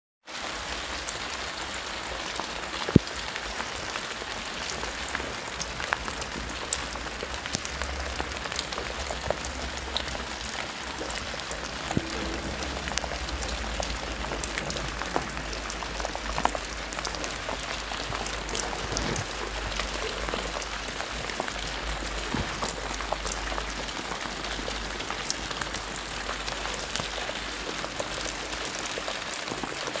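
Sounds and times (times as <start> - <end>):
rain on leaves and grass: 0.2 - 30.0.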